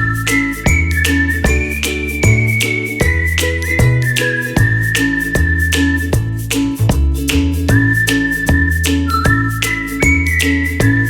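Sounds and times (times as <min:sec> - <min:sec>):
whistle-like melody tone: 0:00.0 - 0:06.7, 0:07.5 - 0:11.0
music with steady beat: 0:00.0 - 0:11.0.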